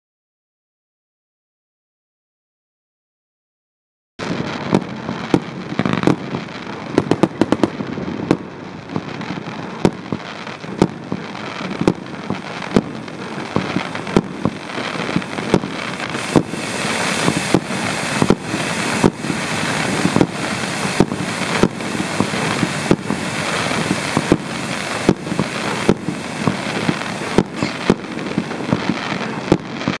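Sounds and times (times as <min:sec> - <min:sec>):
firework fountain hissing: 0:04.2 - 0:30.0
firework pops: 0:04.2 - 0:30.0.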